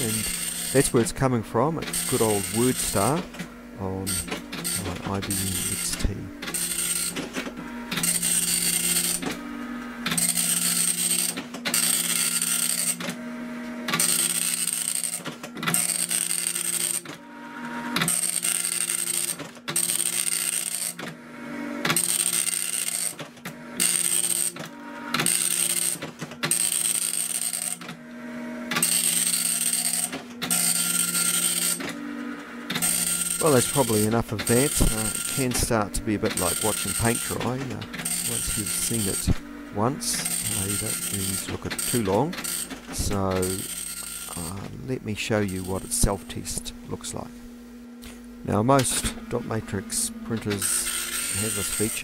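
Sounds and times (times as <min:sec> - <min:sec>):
dot matrix printer printing: 0:00.0 - 0:28.0, 0:28.6 - 0:47.2, 0:48.4 - 0:52.0.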